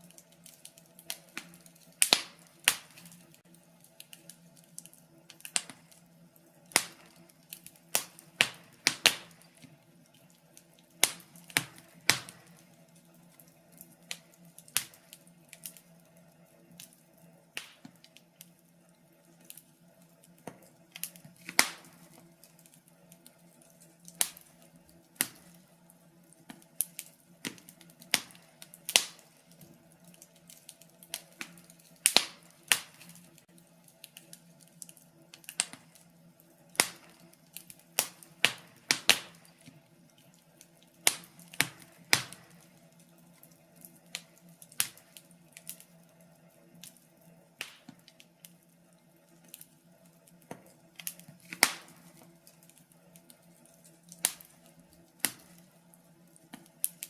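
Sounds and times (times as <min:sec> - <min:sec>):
faint steady hum: 0:00.0 - 0:57.0
fire crackling and popping: 0:00.0 - 0:57.0.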